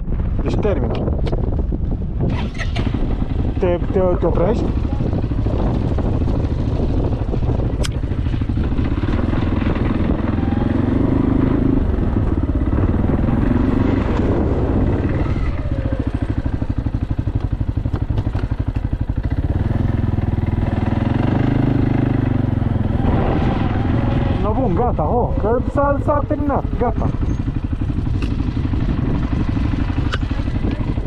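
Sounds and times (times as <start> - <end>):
atv engine revving: 2.2 - 31.0.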